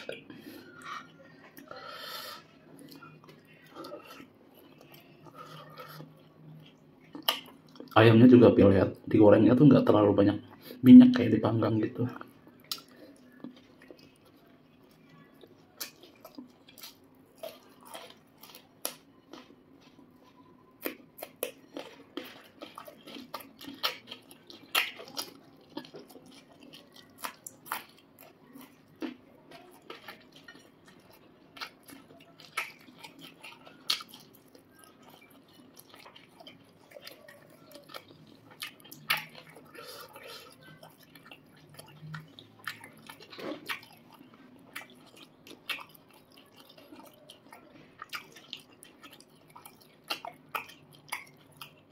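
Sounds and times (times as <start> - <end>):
chewing and mouth clicks: 2.7 - 8.0, 12.1 - 51.9.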